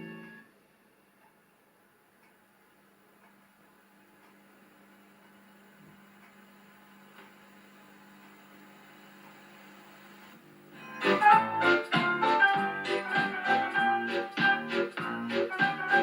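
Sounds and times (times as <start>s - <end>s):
faint electrical hum: 0.0s - 16.0s
tape hiss: 0.0s - 16.0s.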